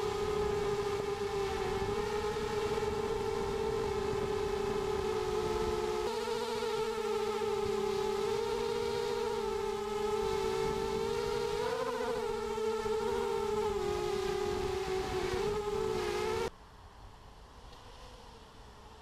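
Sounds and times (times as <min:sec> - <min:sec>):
drone propellers whining: 0:00.0 - 0:16.5
faint hum: 0:00.0 - 0:19.0.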